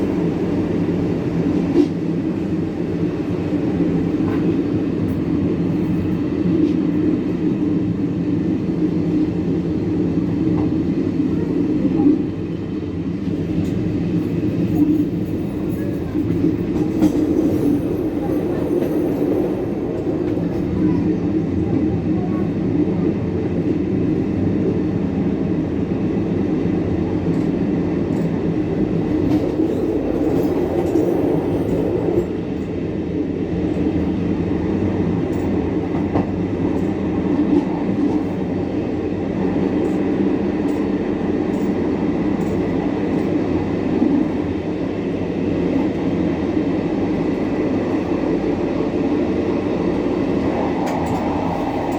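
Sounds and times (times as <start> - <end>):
train wheels on rails: 0.0 - 51.9.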